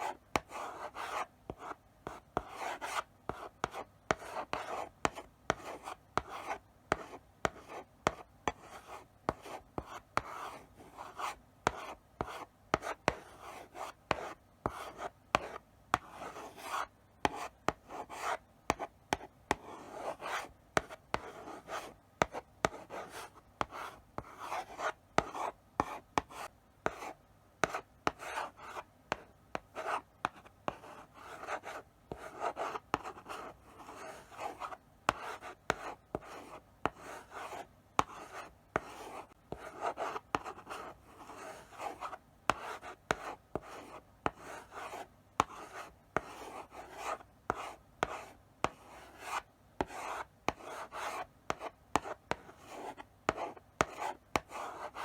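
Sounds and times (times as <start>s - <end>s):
chalk scratching on blackboard: 0.0s - 55.0s
chalk tapping on board: 0.1s - 10.4s, 14.1s - 27.0s, 27.6s - 36.2s, 36.8s - 55.0s.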